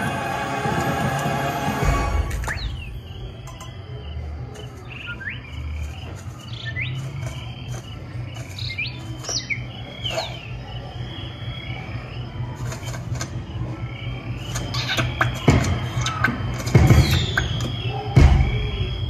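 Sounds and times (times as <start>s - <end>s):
constant low hum: 0.0s - 19.0s
cricket trill: 1.8s - 19.0s.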